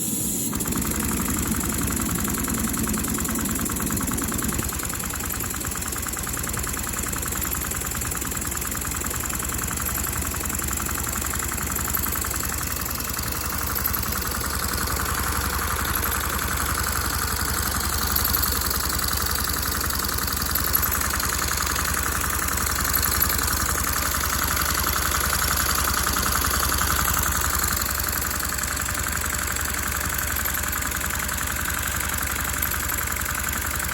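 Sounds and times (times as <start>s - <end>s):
steady engine hum: 0.0s - 33.9s
model engine clattering: 0.5s - 33.9s.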